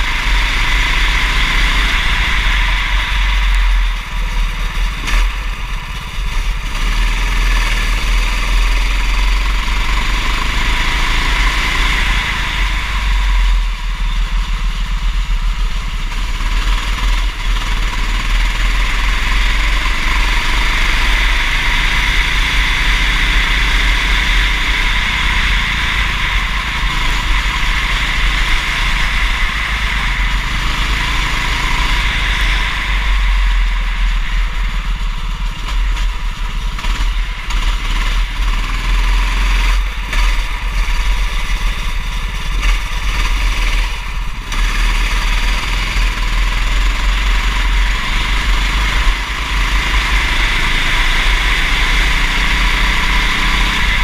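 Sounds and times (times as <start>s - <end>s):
deep rumble: 0.0s - 54.0s
kart engine accelerating: 0.0s - 54.0s.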